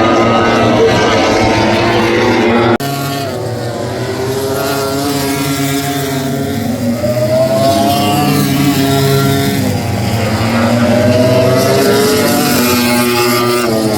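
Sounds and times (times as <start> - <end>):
motorcycle engine at high revs: 0.0 - 13.9.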